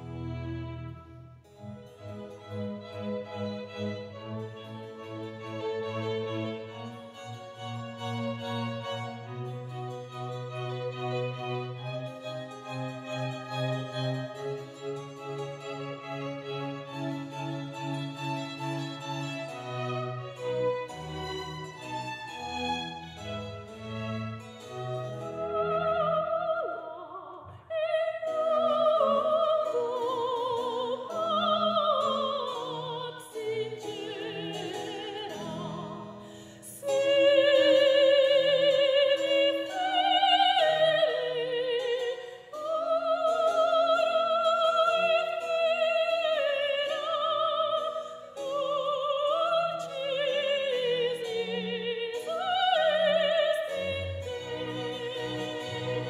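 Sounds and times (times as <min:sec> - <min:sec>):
orchestral accompaniment: 0:00.0 - 0:26.7, 0:27.7 - 0:56.0
operatic singing: 0:08.1 - 0:56.0.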